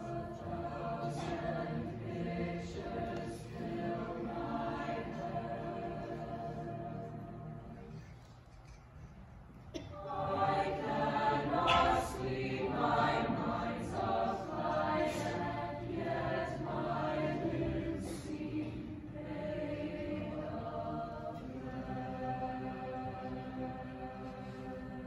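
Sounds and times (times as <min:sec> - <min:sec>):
mixed choir singing: 0:00.0 - 0:08.1, 0:09.8 - 0:25.0.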